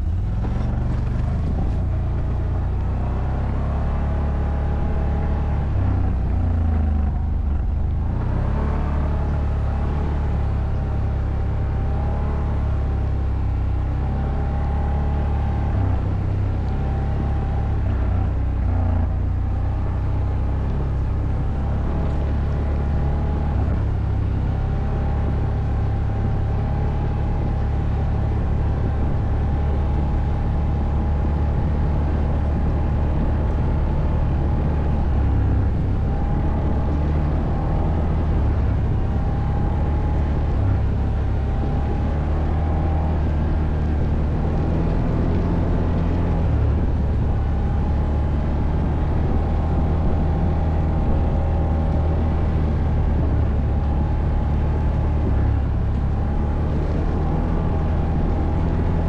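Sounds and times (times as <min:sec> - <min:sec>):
atv engine rumbling: 0:00.0 - 0:59.0.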